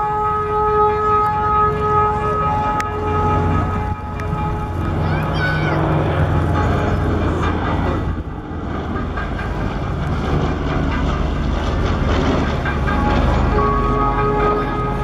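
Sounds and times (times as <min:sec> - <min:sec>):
radial piston engines droning: 0:00.0 - 0:15.0.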